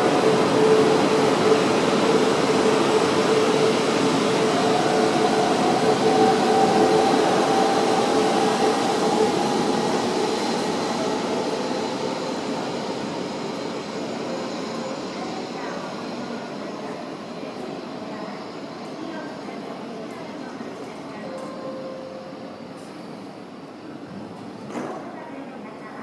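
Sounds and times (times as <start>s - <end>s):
train wheel and running noise: 0.0s - 26.0s.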